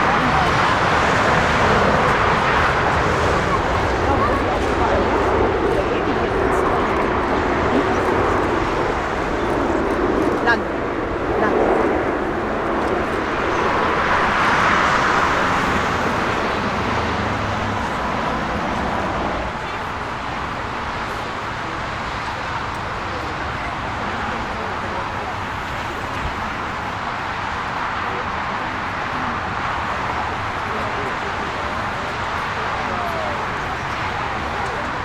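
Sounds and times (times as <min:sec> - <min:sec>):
steady engine noise: 0:00.0 - 0:35.0.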